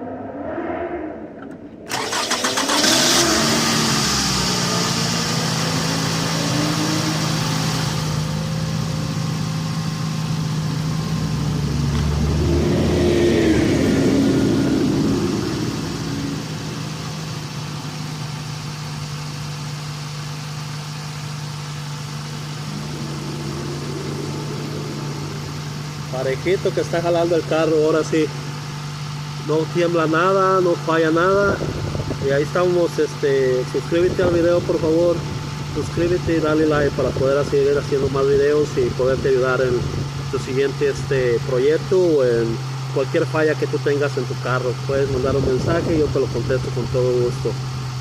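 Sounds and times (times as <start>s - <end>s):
car engine starting and idling: 1.3s - 48.0s.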